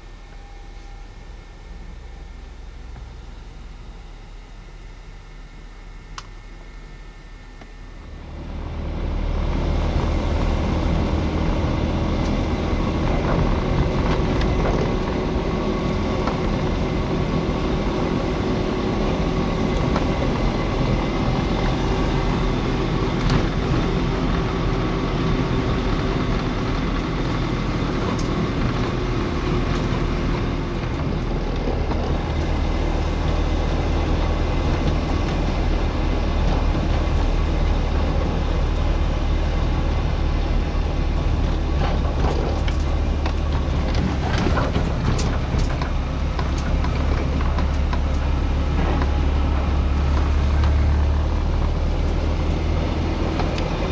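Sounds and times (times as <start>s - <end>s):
car engine and road noise: 8.2s - 53.9s.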